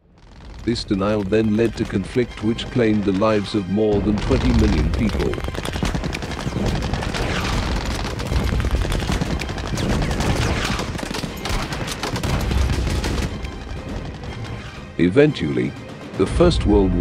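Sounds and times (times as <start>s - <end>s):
machine-gun and rifle fire: 0.0s - 14.9s
deep rumble of shellfire: 0.0s - 15.0s.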